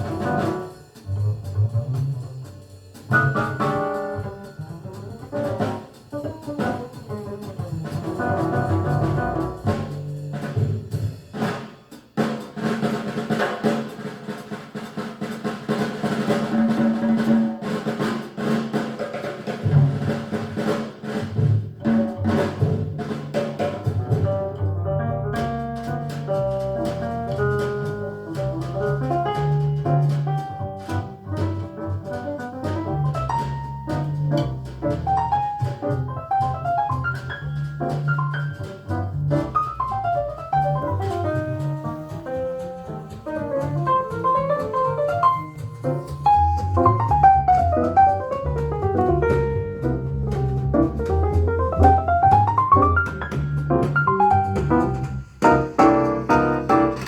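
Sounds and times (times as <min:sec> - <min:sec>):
music with drum kit over loudspeakers: 0:00.0 - 0:57.0.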